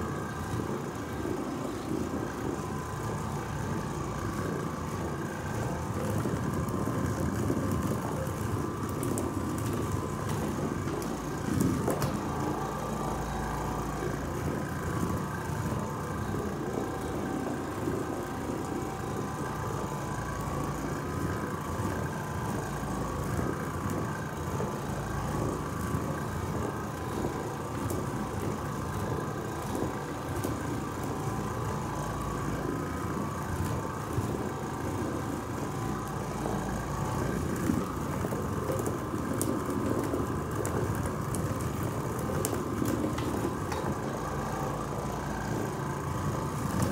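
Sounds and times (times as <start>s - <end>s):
floor machine motor hum: 0.0s - 46.9s.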